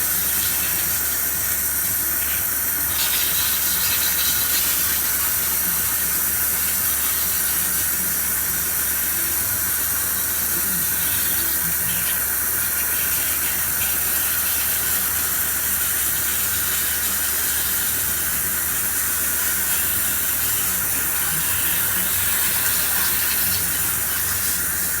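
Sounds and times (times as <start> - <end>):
water spraying hiss: 0.0 - 25.0.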